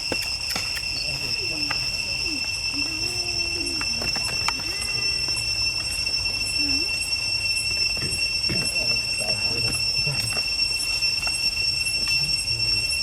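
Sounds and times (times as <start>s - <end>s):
high-pitched insect drone: 0.0s - 13.0s
faint low sliding calls: 0.8s - 13.0s.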